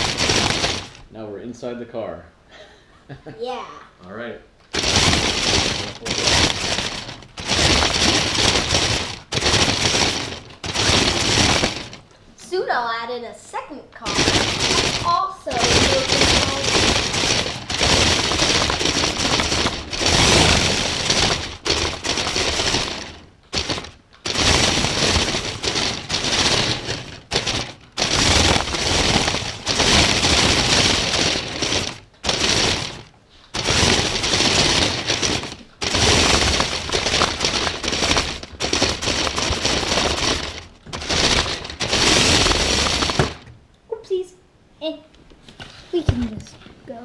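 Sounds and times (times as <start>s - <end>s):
plastic parts rattling: 0.0s - 1.1s, 4.6s - 12.2s, 14.0s - 43.6s.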